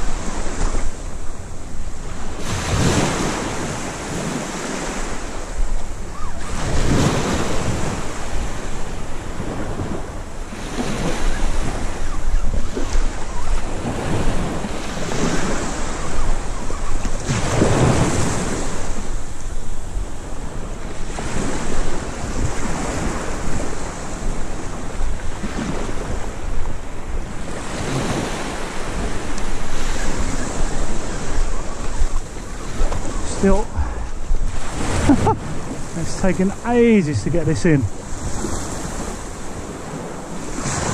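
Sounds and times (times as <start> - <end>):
waves breaking on beach: 0.0 - 40.9
wind buffeting microphone: 0.0 - 40.9.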